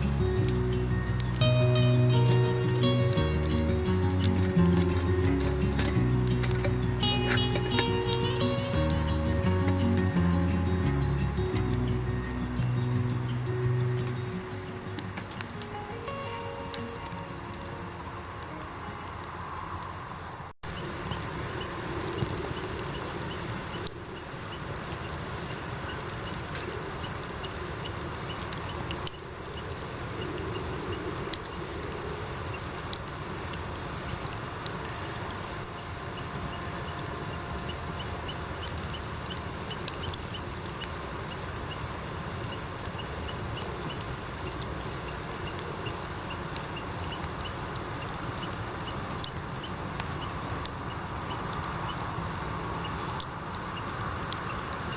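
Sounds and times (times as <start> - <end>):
campfire crackling and popping: 0.0 - 54.9
steady hiss: 0.0 - 54.9.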